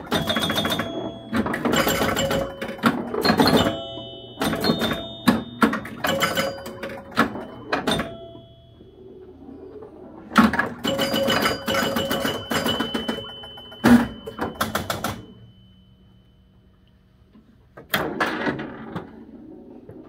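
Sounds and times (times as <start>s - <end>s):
pinball machine mechanical clacks: 0.0s - 15.8s, 17.7s - 20.0s
pinball chime bells ringing: 0.0s - 16.7s.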